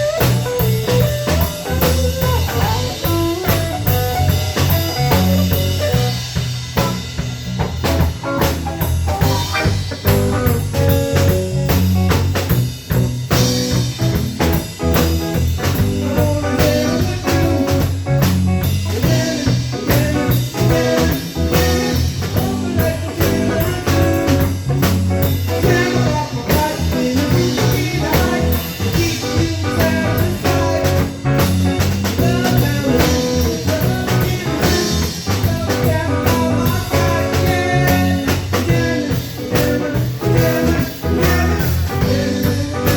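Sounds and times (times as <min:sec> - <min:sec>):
blues band playing: 0:00.0 - 0:42.9
drum kit beat: 0:00.0 - 0:42.9
guitar: 0:00.0 - 0:42.9.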